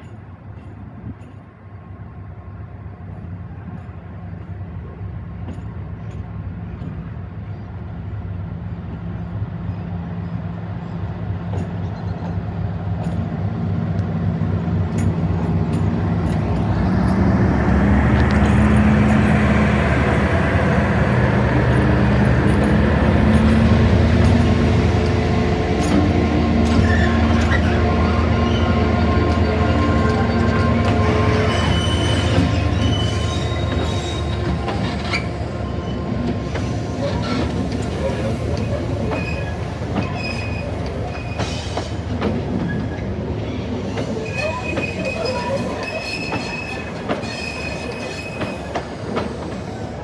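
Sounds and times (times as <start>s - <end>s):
train engine hum: 0.0s - 50.0s
train wheel noise: 3.0s - 50.0s.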